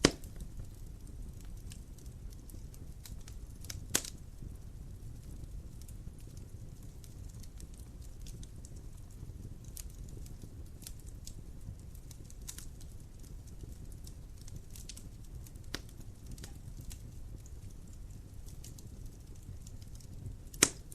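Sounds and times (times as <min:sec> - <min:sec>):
fire popping: 0:00.0 - 0:20.9
flames rumbling: 0:00.0 - 0:20.9.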